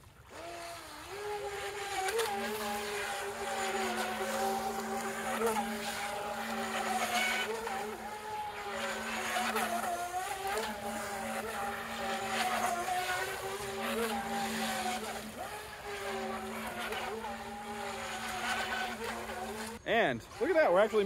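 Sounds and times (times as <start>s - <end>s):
electric motor whining: 0.1s - 21.0s.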